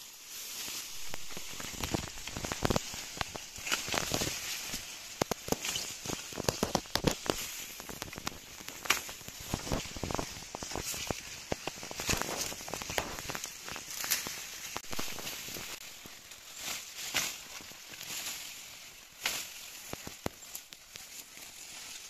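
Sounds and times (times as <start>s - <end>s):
grass leaves rustling: 0.0s - 22.0s
stalks snapping: 1.0s - 22.0s.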